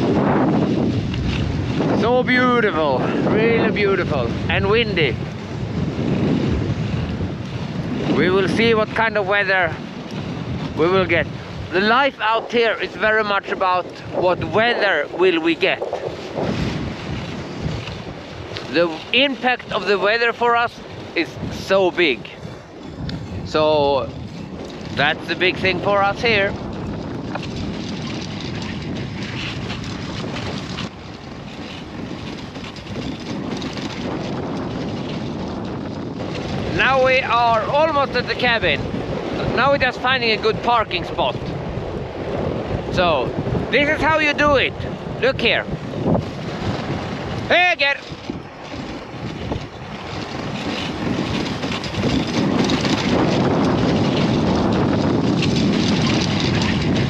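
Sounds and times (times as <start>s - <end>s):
sled runners scraping on snow: 0.0s - 57.0s
wind on microphone: 0.0s - 57.0s.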